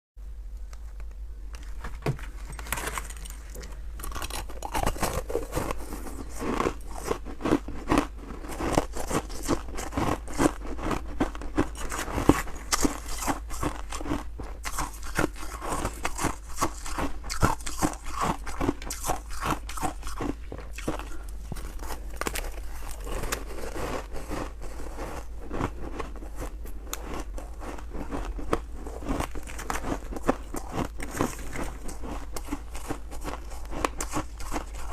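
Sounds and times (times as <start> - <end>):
steady low hum: 0.2 - 34.9
crunching and chewing ice: 1.6 - 34.9.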